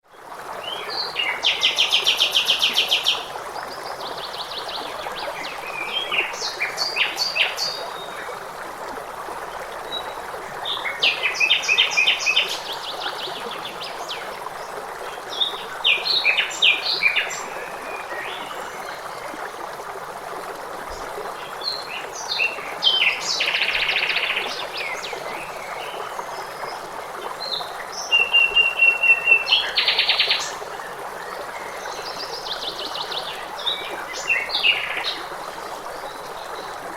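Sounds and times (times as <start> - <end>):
flowing water rushing: 0.1 - 36.9.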